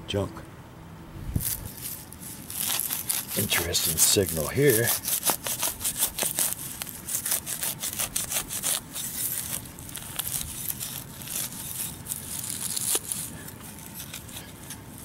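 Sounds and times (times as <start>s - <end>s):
knife cutting through turf: 1.4s - 15.0s.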